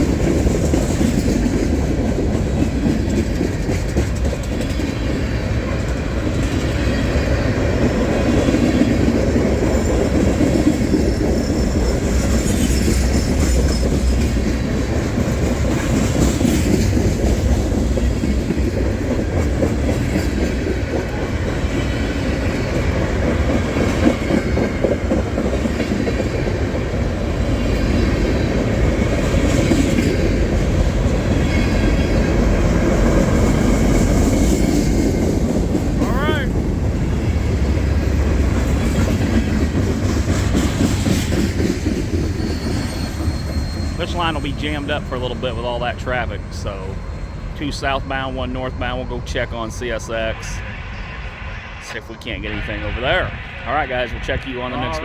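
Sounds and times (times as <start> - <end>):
train wheels clacking on rails: 0.0 - 55.0.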